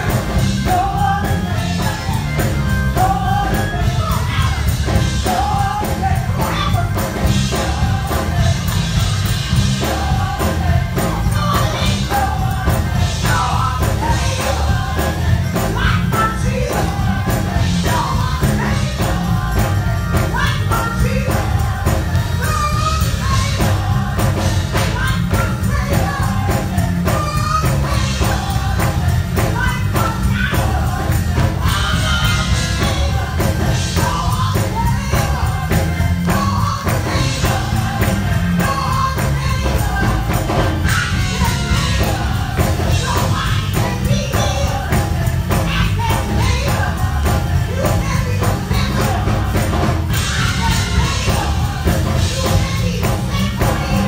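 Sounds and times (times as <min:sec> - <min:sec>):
bass-heavy accompaniment: 0:00.0 - 0:54.0
steady percussive beat: 0:00.0 - 0:54.0
woman singing gospel song: 0:00.0 - 0:54.0.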